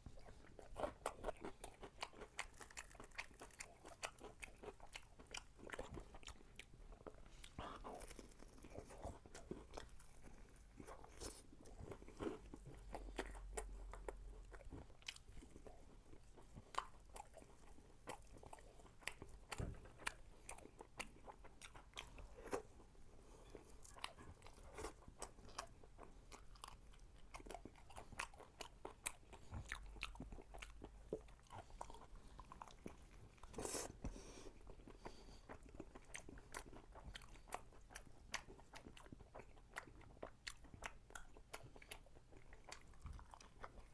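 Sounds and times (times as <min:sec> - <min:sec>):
crunchy chewing: 0:00.1 - 0:43.9.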